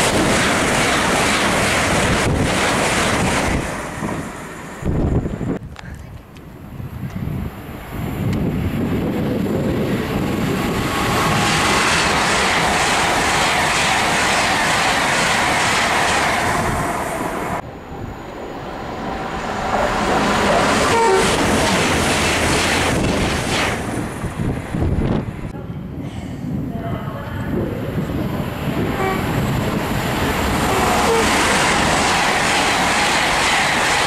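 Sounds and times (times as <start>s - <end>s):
train passing at speed: 0.0s - 5.6s, 6.4s - 34.0s.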